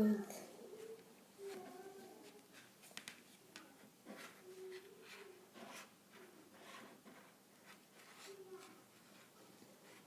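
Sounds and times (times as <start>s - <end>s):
faint clicks and taps: 0.8s - 10.0s.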